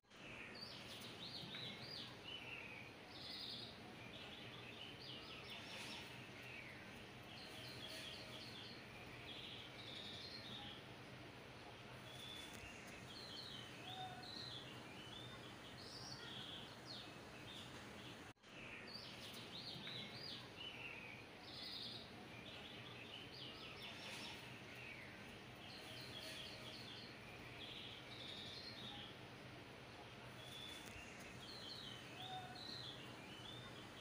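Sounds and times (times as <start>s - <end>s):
faint birdsong chirps: 0.1s - 34.0s
low hiss and hum: 0.1s - 34.0s.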